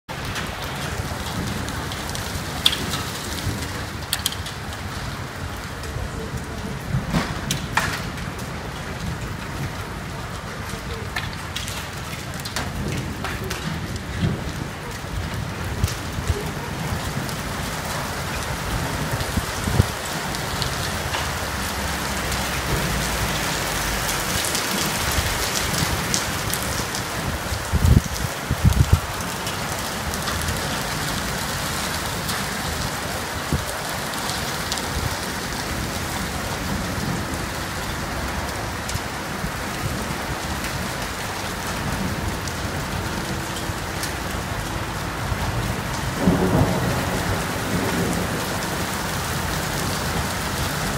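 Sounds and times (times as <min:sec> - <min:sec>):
heavy rain and hail pelting: 0:00.1 - 0:50.9.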